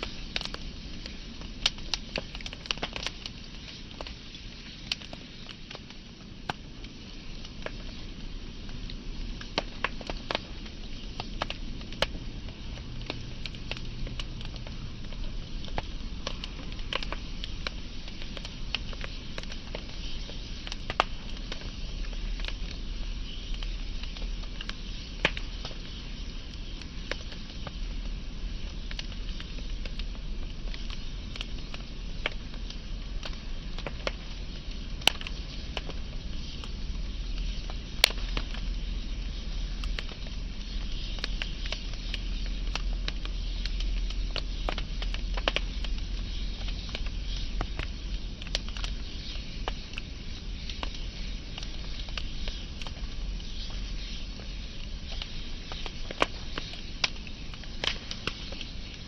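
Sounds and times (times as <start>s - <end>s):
flames hissing and rumbling: 0.0s - 59.0s
wood fire crackling and popping: 0.0s - 59.0s.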